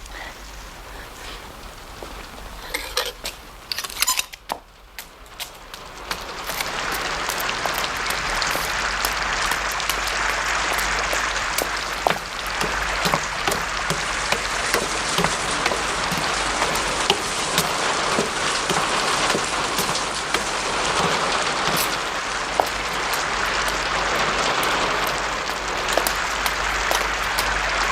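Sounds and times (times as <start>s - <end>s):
steady rain falling: 0.0s - 27.9s
drops ticking on hard surfaces: 4.4s - 27.9s.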